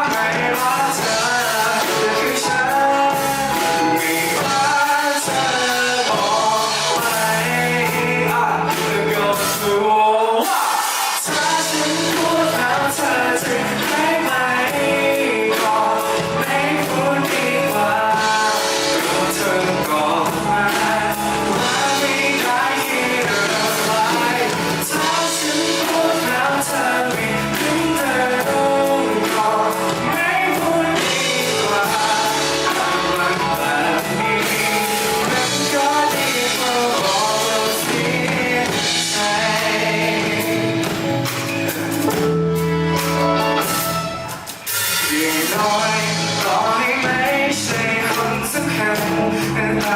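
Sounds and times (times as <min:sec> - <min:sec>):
live band music: 0:00.0 - 0:49.9
person singing: 0:00.0 - 0:49.9.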